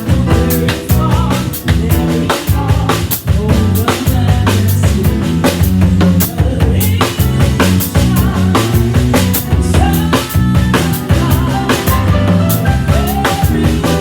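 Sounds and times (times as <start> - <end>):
bass drum and snare strokes: 0.0 - 14.0
instrumental band playing: 0.0 - 14.0.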